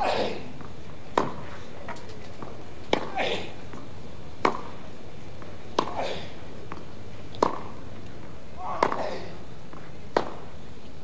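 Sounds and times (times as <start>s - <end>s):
tennis ball hit by rackets: 0.1s - 4.8s, 5.4s - 7.8s, 8.6s - 10.5s.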